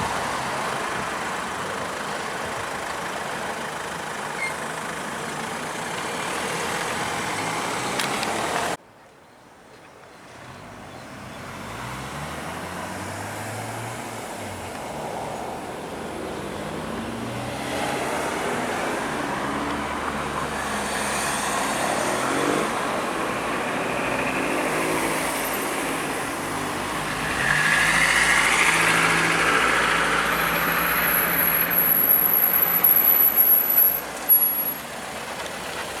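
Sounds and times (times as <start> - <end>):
road traffic passing: 0.0 - 8.8, 10.2 - 36.0.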